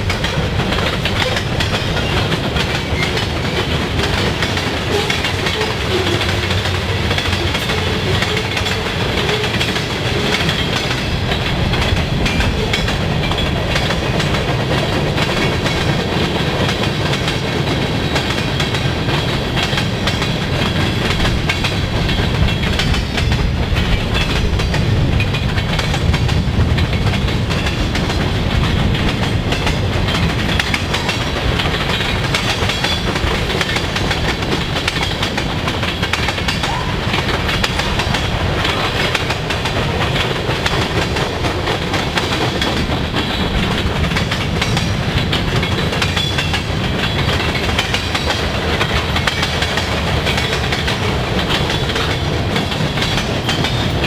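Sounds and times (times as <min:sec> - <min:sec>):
freight train cars rolling: 0:00.0 - 0:54.0
wheels clicking over rail joints: 0:00.0 - 0:54.0.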